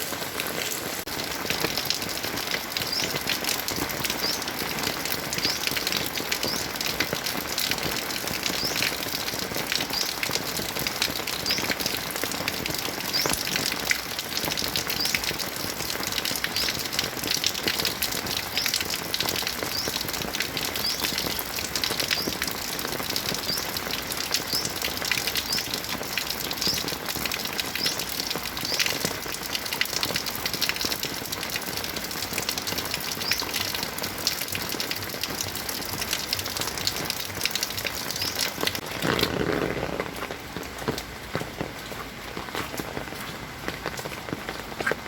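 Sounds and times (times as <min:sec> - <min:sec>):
heavy rain falling: 0:00.0 - 0:45.0
lower rush of water: 0:00.0 - 0:45.0.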